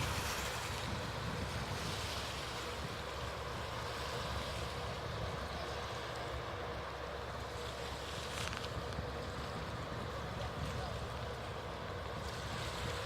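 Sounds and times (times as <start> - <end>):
wind noise on microphone: 0.0 - 6.0, 8.0 - 13.0
ferry engine rumble: 0.0 - 13.0.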